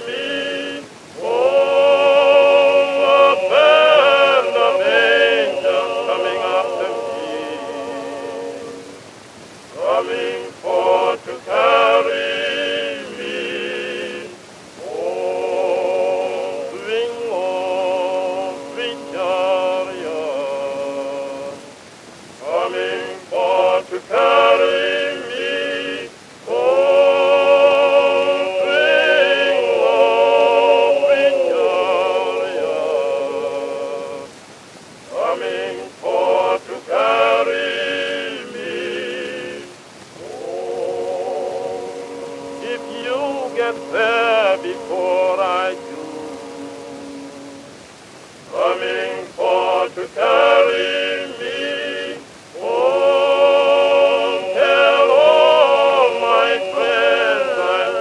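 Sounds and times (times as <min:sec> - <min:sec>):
person singing slow song with vibrato: 0:00.0 - 0:58.0.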